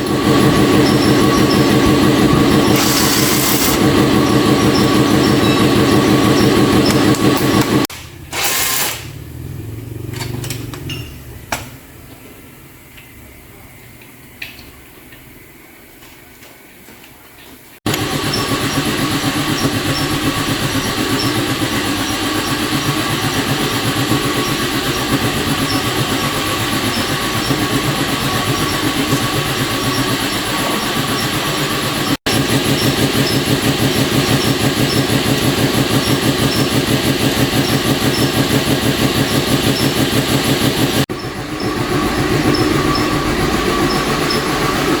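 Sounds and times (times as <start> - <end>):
machine running with fast pulse: 0.0 - 9.8, 17.9 - 45.0.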